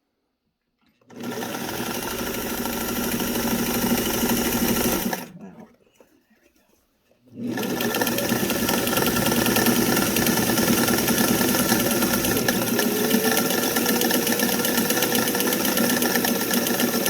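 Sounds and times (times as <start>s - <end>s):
sewing machine running: 1.1s - 5.3s, 7.4s - 17.0s.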